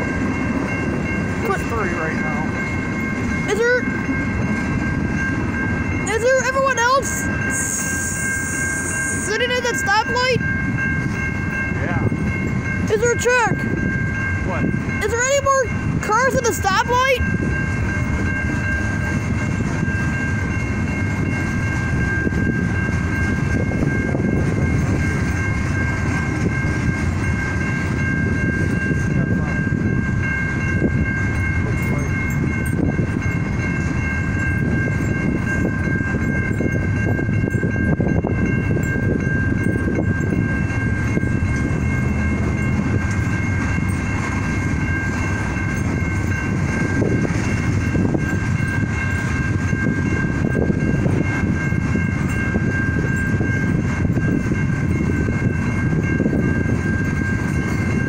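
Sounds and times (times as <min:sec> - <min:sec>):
high ringing tones: 0:00.0 - 0:58.0
train wheels rumbling on rails: 0:00.0 - 0:58.0.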